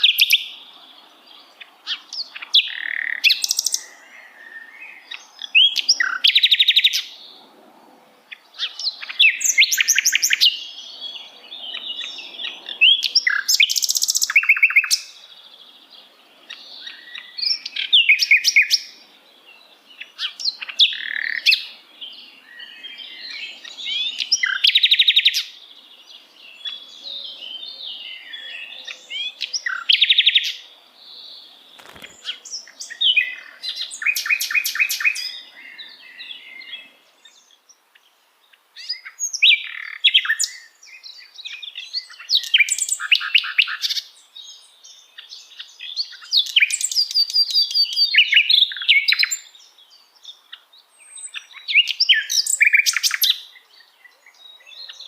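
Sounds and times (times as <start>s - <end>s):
nightingale singing: 0.0s - 7.5s, 8.2s - 55.0s.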